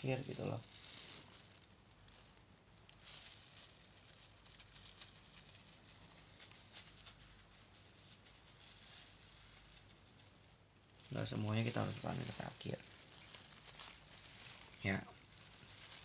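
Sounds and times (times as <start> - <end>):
plastic glove rustling through hair: 0.0 - 16.0.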